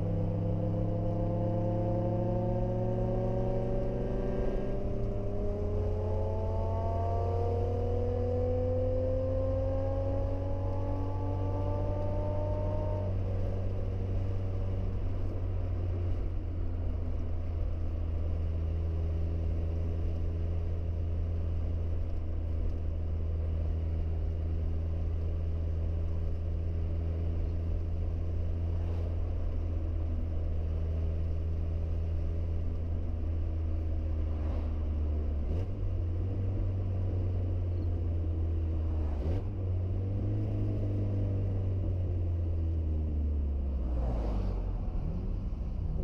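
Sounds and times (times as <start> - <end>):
car engine driving: 0.0 - 46.0.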